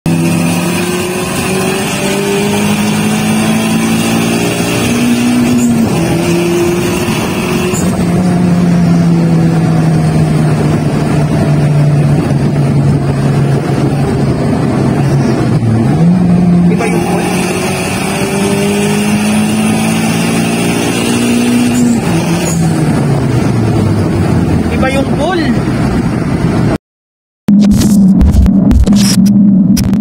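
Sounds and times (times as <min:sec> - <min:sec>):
car engine running: 0:00.1 - 0:26.8, 0:27.5 - 0:30.0.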